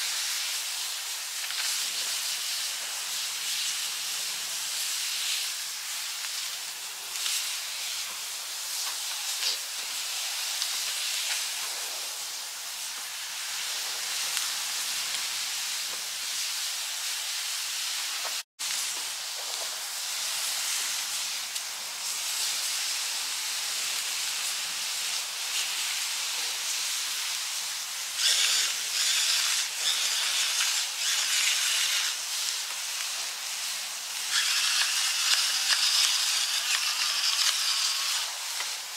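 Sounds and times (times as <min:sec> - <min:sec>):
fire crackling: 0:00.0 - 0:17.3, 0:18.0 - 0:38.9
food sizzling in skillets: 0:00.0 - 0:38.9.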